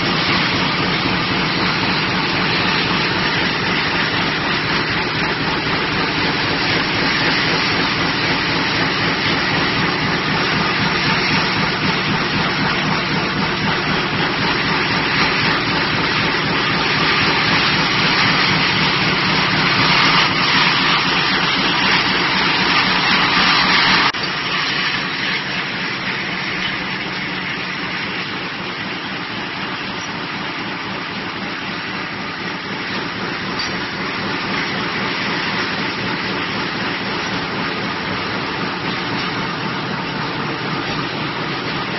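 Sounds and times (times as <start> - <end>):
slitting machine running: 0.0 - 41.9.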